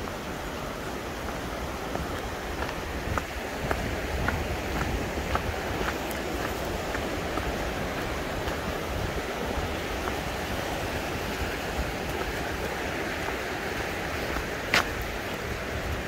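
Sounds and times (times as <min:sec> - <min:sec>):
stream flowing over rocks: 0:00.0 - 0:16.0.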